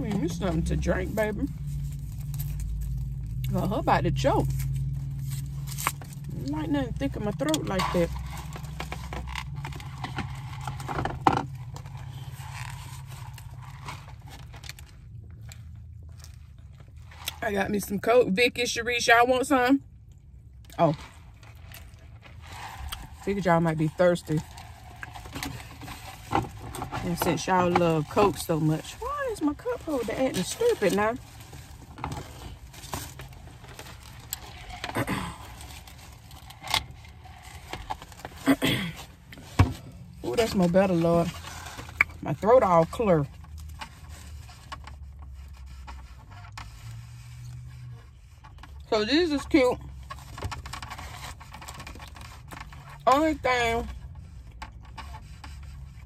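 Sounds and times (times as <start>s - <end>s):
light scraping and rustling: 0.0s - 17.8s, 20.7s - 56.0s
low steady hum: 0.0s - 56.0s.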